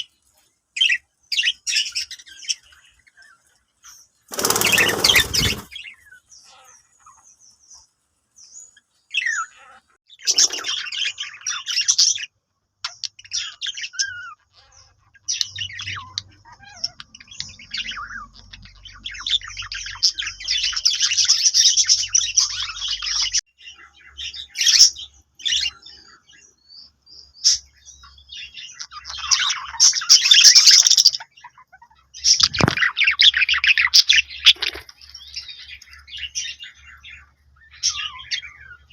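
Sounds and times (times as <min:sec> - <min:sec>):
budgerigars chattering and chirping: 0:00.8 - 0:38.9.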